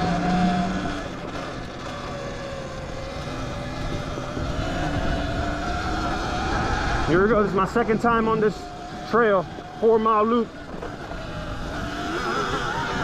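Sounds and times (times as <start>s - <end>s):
electric motor whining: 0.0s - 13.0s
wind rumble on microphone: 0.0s - 13.0s.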